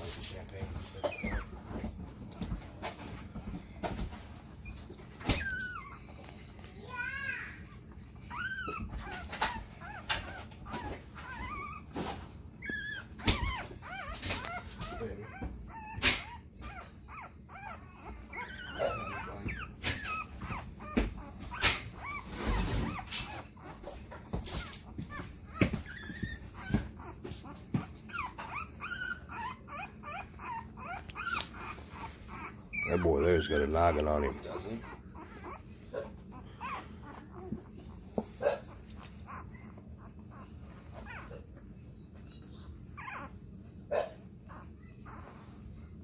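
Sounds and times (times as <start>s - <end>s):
puppies whimpering and squeaking: 0.0s - 46.0s.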